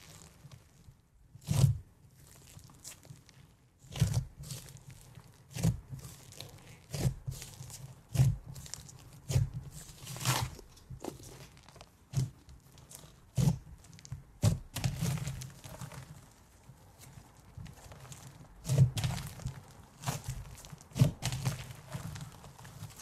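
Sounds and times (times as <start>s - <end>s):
crunchy slime squishing: 0.0s - 23.0s.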